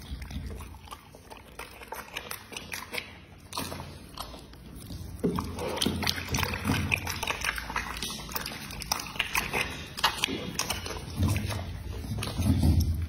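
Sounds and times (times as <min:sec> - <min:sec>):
dog chewing meat: 0:00.0 - 0:13.0.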